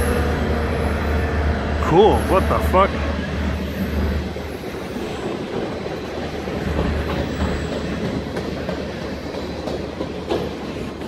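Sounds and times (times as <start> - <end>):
rail joint clacks: 0.0 - 11.0
train wheels rumbling on rails: 0.0 - 11.0.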